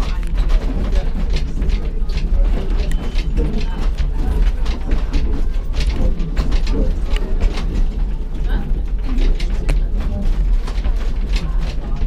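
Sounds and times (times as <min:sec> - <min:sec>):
funicular car rumbling: 0:00.0 - 0:12.0
mechanical clicks and rattles: 0:00.0 - 0:12.0.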